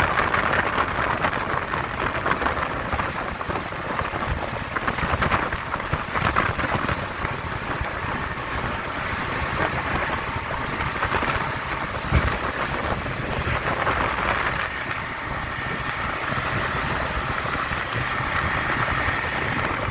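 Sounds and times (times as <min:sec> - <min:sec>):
motorboat engine drone: 0:00.0 - 0:19.9
rushing water: 0:00.0 - 0:19.9
wind buffeting microphone: 0:00.0 - 0:19.9.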